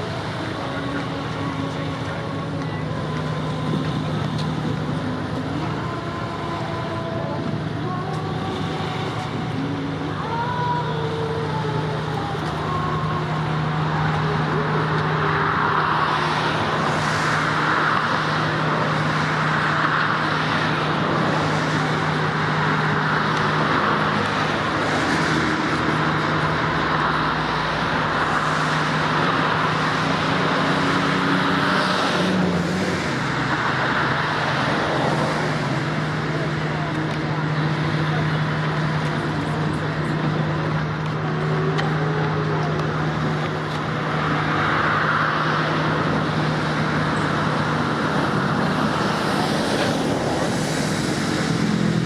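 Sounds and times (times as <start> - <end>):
road traffic noise: 0.0 - 52.0.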